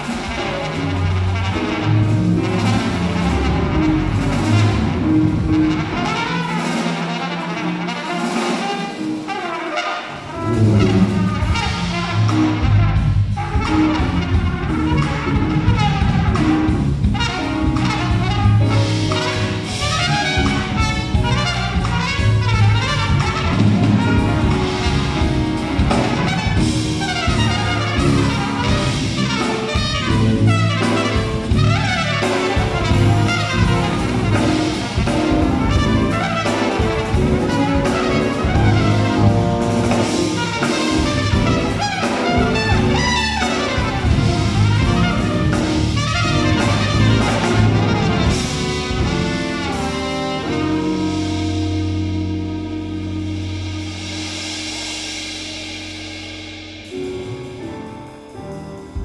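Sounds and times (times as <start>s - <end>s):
electric bass: 0.0s - 6.8s, 10.2s - 59.0s
drums: 0.0s - 59.0s
keyboards: 0.0s - 59.0s
trumpet: 0.0s - 59.0s.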